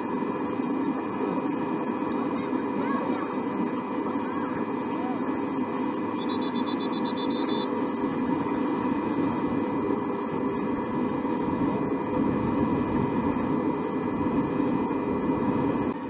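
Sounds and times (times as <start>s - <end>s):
constant rushing noise: 0.0s - 16.0s
mechanical hum with whine: 0.0s - 16.0s.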